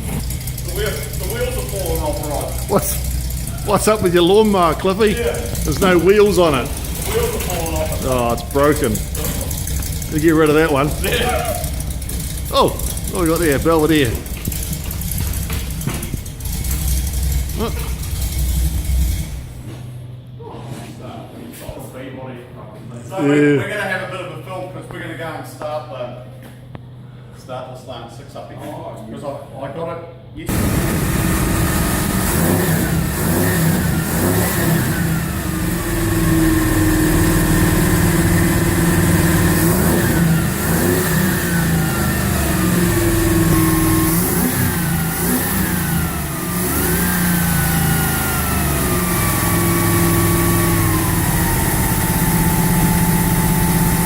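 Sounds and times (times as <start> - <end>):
car engine revving: 0.0 - 19.8, 30.5 - 54.0
steady low hum: 0.0 - 54.0.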